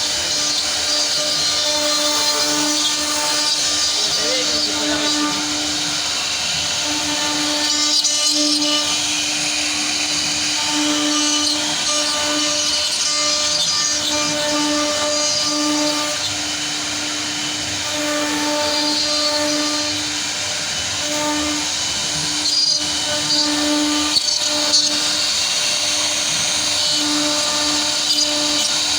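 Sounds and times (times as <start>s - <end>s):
cutting hiss: 0.0s - 28.9s.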